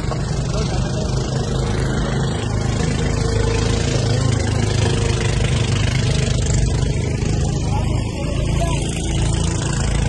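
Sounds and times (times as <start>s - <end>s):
boat engine humming: 0.0s - 10.0s
wind: 0.0s - 10.0s.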